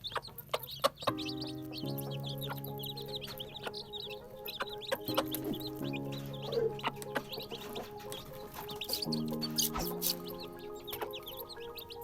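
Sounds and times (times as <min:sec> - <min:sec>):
baby chicks peeping: 0:00.0 - 0:12.0
background music with held chords: 0:01.1 - 0:12.0.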